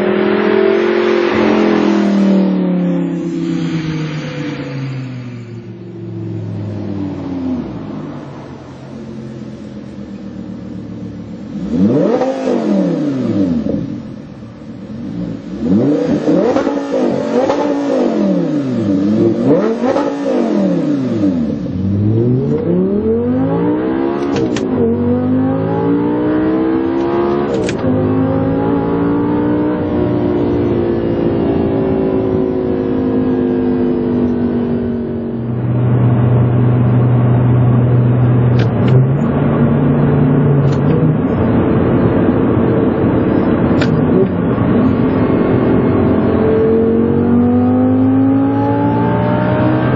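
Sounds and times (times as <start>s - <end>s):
sports car engine revving: 0.0s - 49.9s.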